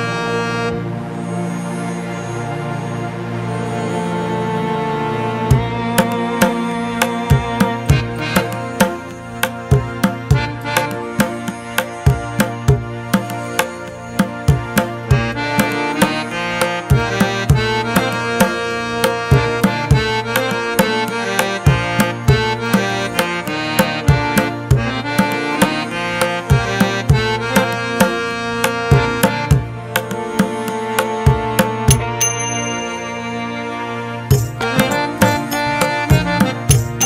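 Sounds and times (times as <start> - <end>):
sustained instrumental tones: 0.0 - 37.0
tabla drum strokes: 5.5 - 32.8, 34.3 - 37.0.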